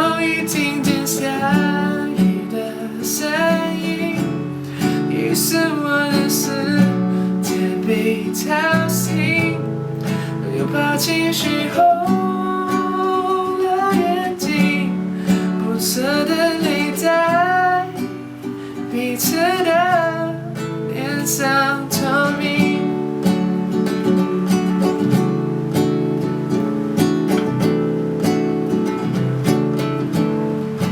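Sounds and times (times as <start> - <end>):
wordless singing with vibrato: 0.0 - 25.7
acoustic guitar strumming: 0.0 - 30.9.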